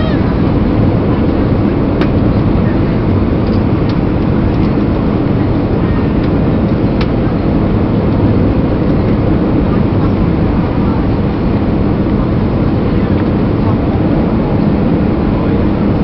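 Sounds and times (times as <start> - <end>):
aircraft cabin engine and airflow rumble: 0.0 - 16.0.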